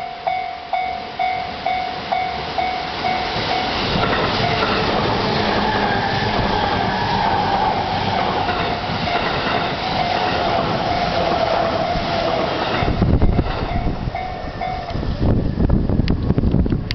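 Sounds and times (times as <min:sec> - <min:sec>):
electric train running past: 0:00.0 - 0:16.9
wind buffeting microphone: 0:03.0 - 0:16.9.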